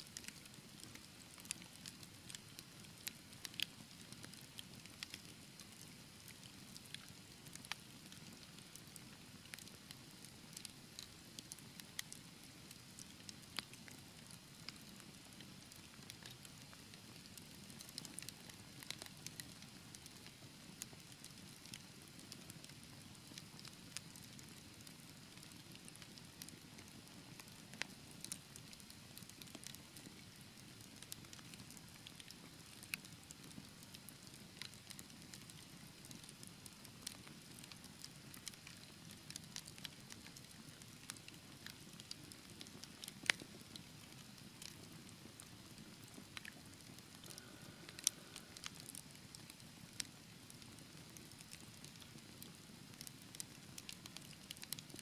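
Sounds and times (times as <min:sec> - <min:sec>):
wood fire crackling: 0:00.2 - 0:55.0.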